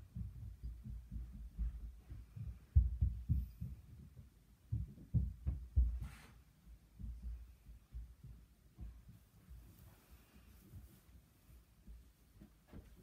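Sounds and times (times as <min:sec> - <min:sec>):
muffled footsteps thudding: 0:00.0 - 0:13.0.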